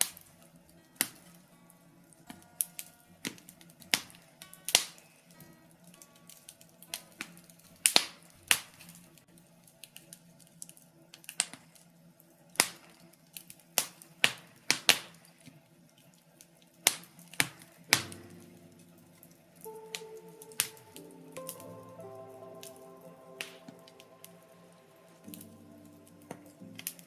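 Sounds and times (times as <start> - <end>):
faint steady background noise: 0.0 - 27.0
wood fire crackling: 2.0 - 27.0.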